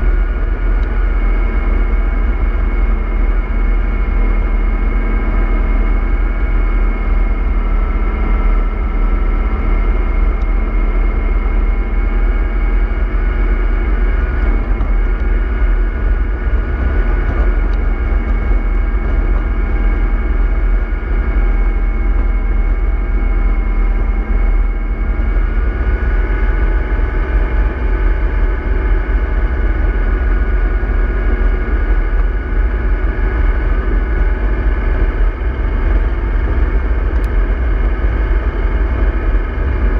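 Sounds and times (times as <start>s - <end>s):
bus engine rumbling: 4.8s - 39.9s.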